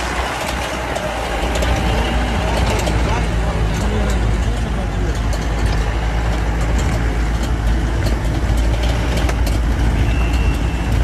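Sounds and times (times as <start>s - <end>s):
rattles and knocks: 0.0s - 11.0s
vehicle engine and road rumble: 0.0s - 11.0s.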